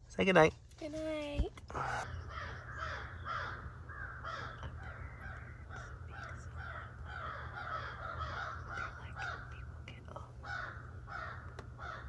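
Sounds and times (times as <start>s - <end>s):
birds calling: 1.6s - 12.0s.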